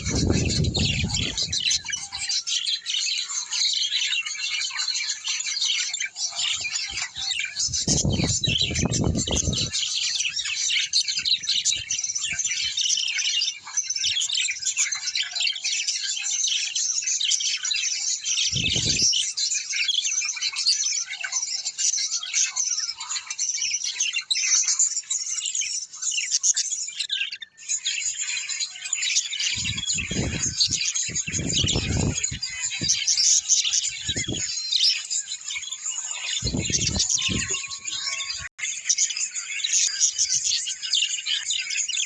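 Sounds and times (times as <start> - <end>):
small birds chirping in chorus: 0.0 - 42.0.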